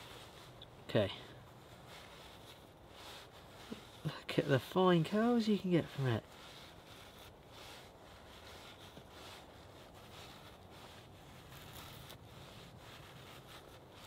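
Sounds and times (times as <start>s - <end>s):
knife scraping wooden stick: 0.0s - 14.0s.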